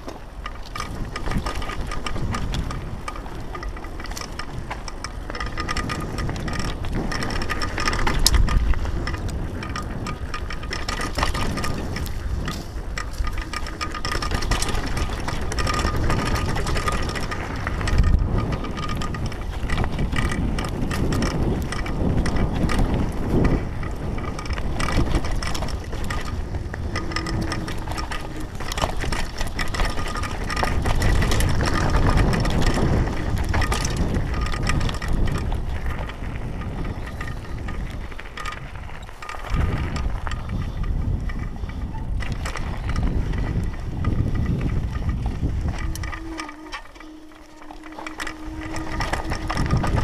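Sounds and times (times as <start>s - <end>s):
bike rattling and clicking: 0.0s - 50.0s
tyres rumbling over dirt: 0.0s - 50.0s
wind buffeting microphone: 0.0s - 50.0s.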